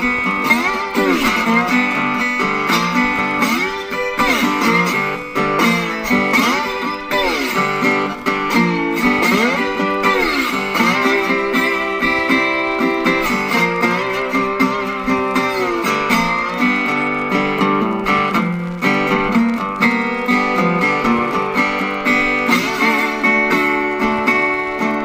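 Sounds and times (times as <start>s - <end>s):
blues slide guitar: 0.0s - 25.0s.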